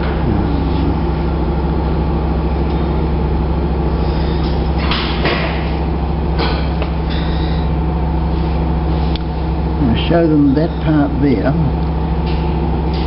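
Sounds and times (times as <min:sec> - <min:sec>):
air-powered engine humming: 0:00.0 - 0:13.0.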